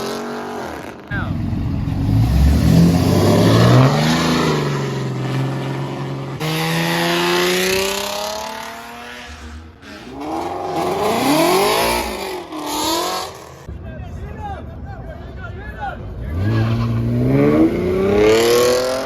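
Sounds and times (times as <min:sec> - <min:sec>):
car engine accelerating: 0:00.0 - 0:13.7, 0:16.1 - 0:19.0.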